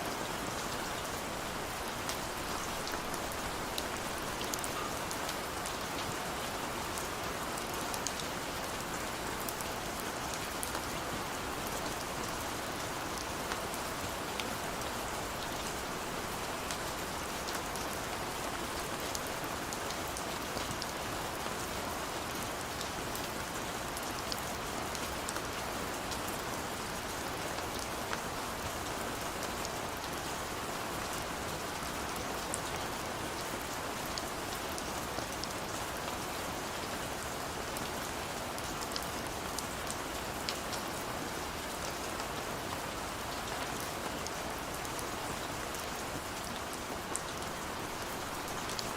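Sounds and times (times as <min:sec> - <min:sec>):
gentle rain falling: 0:00.0 - 0:48.9.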